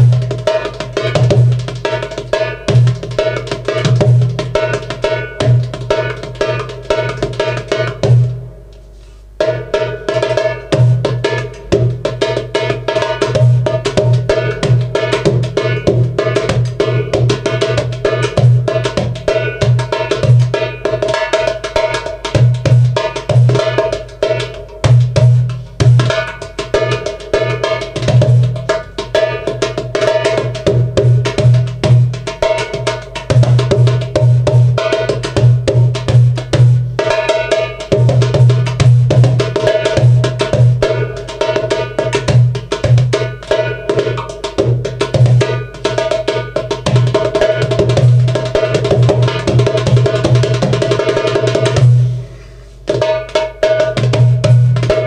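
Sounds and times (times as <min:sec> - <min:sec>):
hand drum solo: 0:00.0 - 0:08.6, 0:09.4 - 0:52.2, 0:52.8 - 0:55.0
darbuka bass strokes: 0:00.0 - 0:55.0
darbuka rim strokes: 0:00.0 - 0:55.0.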